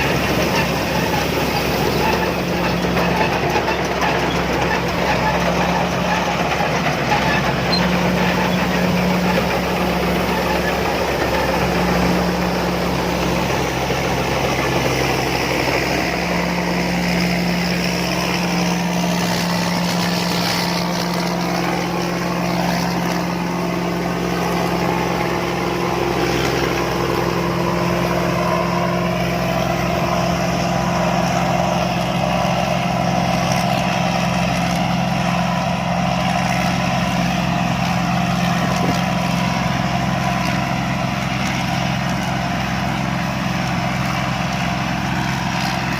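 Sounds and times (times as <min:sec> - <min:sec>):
combine harvester engine hum: 0:00.0 - 0:45.9.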